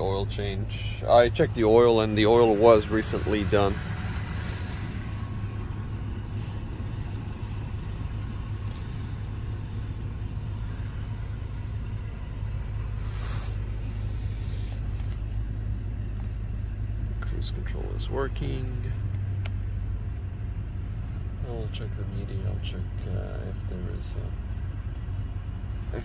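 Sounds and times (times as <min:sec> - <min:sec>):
truck engine low rumble: 0:00.0 - 0:26.0.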